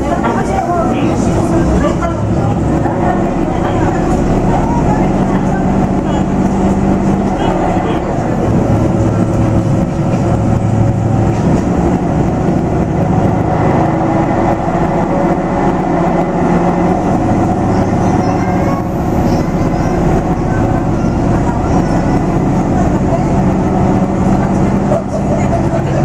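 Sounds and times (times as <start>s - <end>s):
railcar engine drone: 0.0s - 26.0s
wheel and rail rumble: 0.0s - 26.0s.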